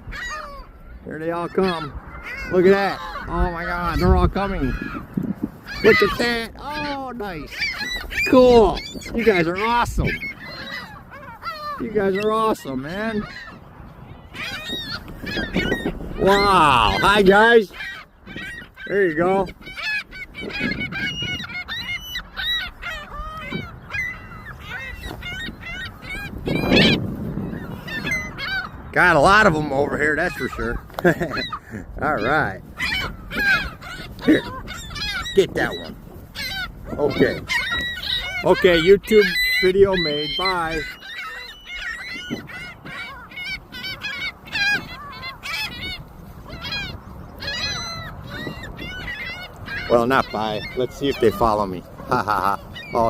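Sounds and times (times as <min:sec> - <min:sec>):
flock of birds calling harshly: 0:00.0 - 0:53.0.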